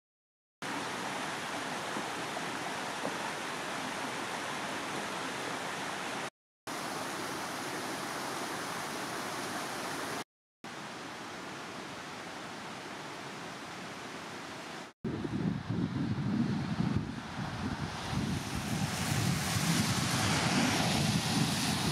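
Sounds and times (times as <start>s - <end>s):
rushing stream water: 0.6s - 21.9s.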